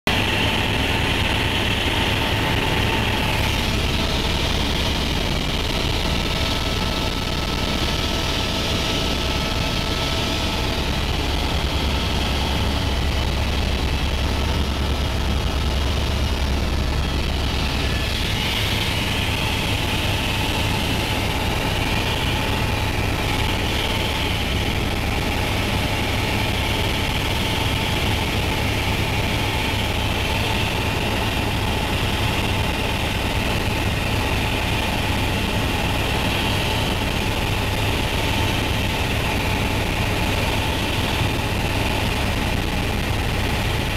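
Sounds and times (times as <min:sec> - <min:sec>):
helicopter engine and rotor drone: 0:00.1 - 0:43.9.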